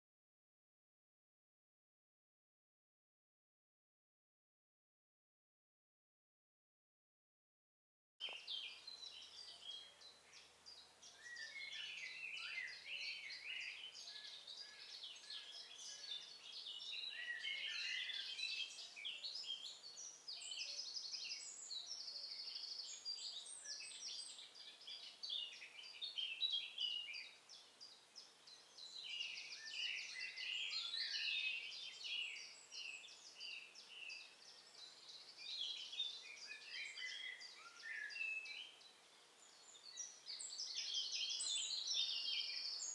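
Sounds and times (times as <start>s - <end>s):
small birds chirping: 8.2s - 42.9s.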